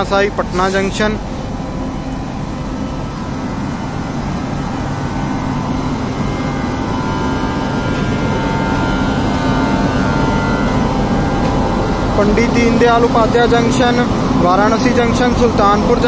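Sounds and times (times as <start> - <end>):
locomotive blowers humming: 0.0 - 16.0.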